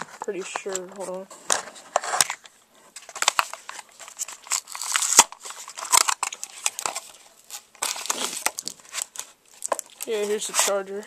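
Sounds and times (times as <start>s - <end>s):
cardboard scraping and rustling: 0.0s - 11.0s.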